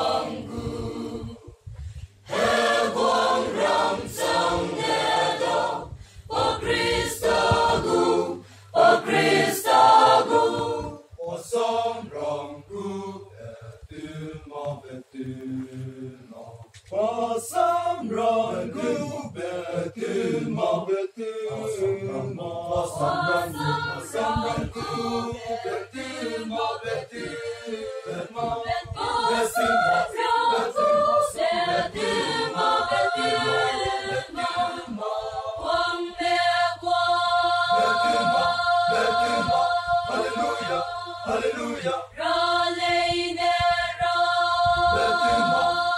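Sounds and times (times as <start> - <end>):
mixed choir singing unaccompanied: 0.0 - 1.6, 2.2 - 45.9.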